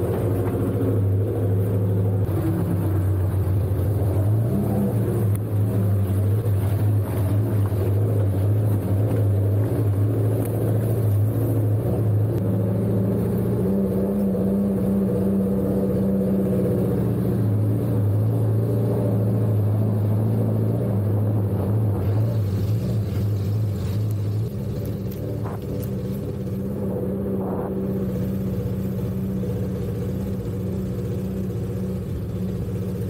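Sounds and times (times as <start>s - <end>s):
off-road vehicle engine droning: 0.0s - 33.0s.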